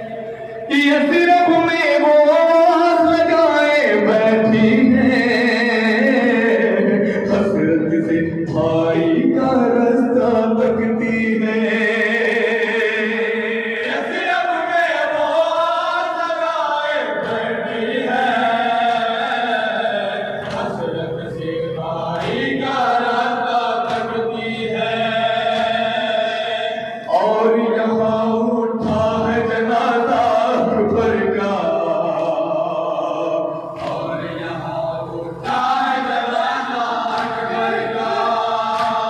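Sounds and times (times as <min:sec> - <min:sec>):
men chanting a lament: 0:00.0 - 0:39.0.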